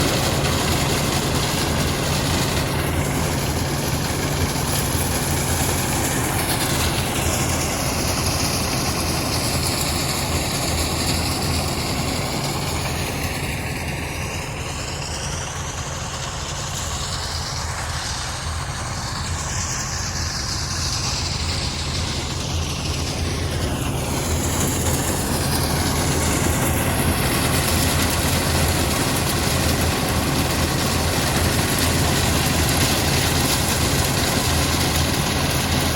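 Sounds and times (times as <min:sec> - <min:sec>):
threshing machine engine hum: 0:00.0 - 0:35.9.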